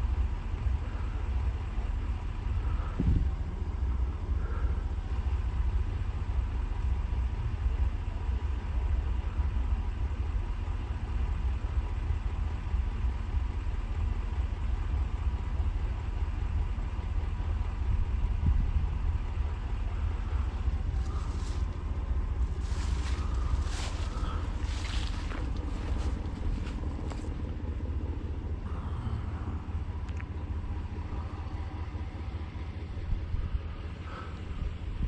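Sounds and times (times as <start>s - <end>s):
car engine from inside cabin: 0.0s - 35.0s
road rumble: 0.0s - 35.0s.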